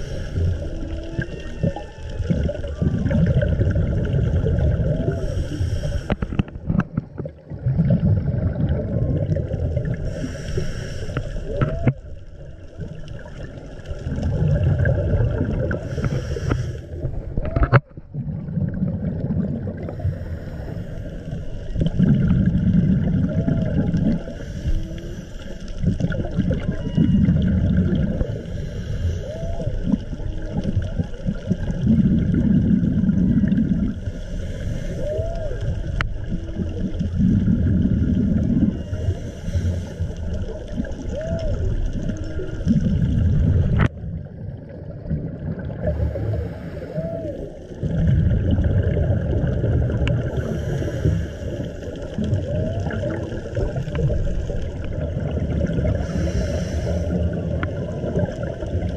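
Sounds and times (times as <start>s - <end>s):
exhaled bubbles gurgling underwater: 0.0s - 58.9s
steady water hiss: 0.0s - 58.9s.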